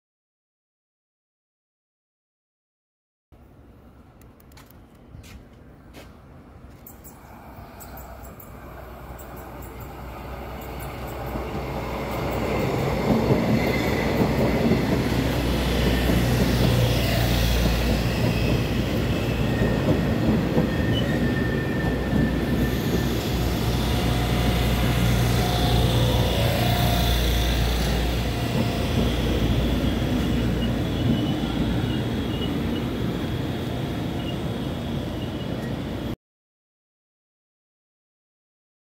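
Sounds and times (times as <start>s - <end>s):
train wheels rumbling on rails: 4.6s - 36.2s.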